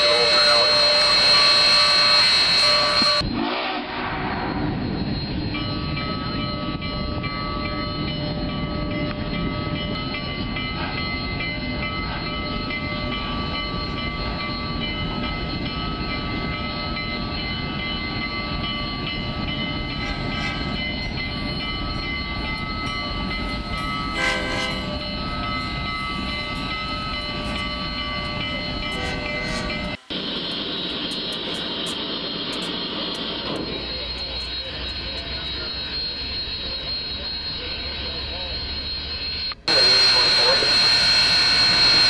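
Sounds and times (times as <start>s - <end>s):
high-pitched ringing tones: 0.0s - 42.0s
steam train low rumble: 0.0s - 42.0s.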